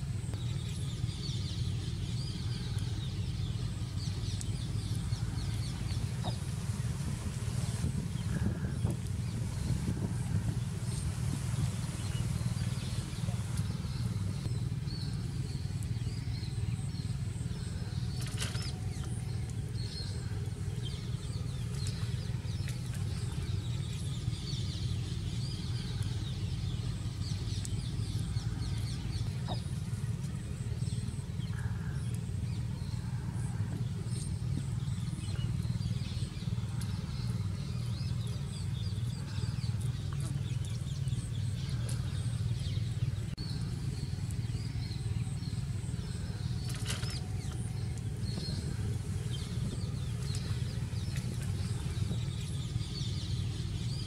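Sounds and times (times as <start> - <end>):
low rumble: 0.0 - 54.0
small birds chirping: 0.0 - 54.0.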